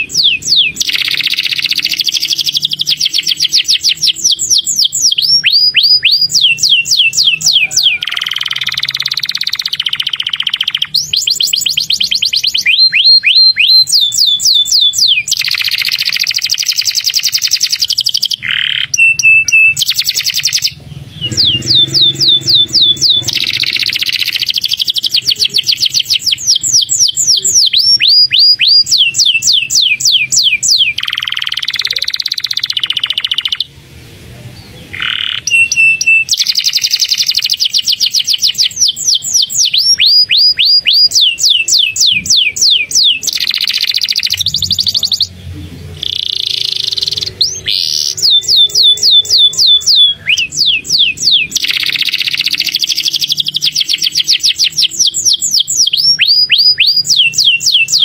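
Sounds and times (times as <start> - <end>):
canary singing: 0.0 - 33.8, 34.5 - 58.0.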